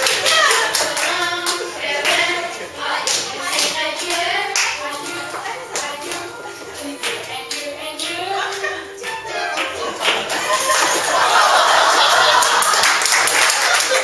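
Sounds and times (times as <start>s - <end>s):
people clapping in rhythm: 0.0s - 14.0s
voices: 0.2s - 12.6s.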